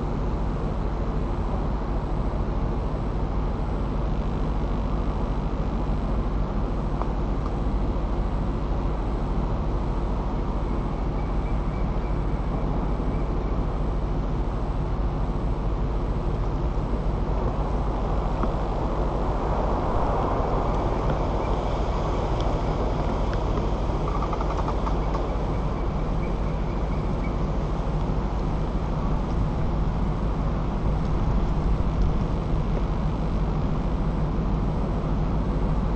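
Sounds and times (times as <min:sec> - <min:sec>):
wind rumble on microphone: 0:00.0 - 0:35.9.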